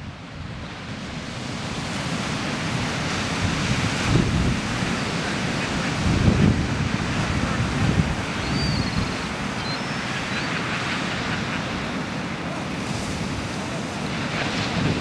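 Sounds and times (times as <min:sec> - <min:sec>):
wind rumbling on microphone: 0:00.0 - 0:11.2, 0:12.6 - 0:15.0
ocean surf breaking on beach: 0:00.0 - 0:15.0.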